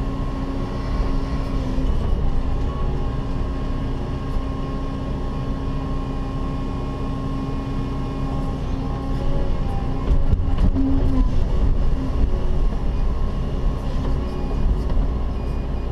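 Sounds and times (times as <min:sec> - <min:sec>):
excavator engine droning: 0:00.0 - 0:15.9.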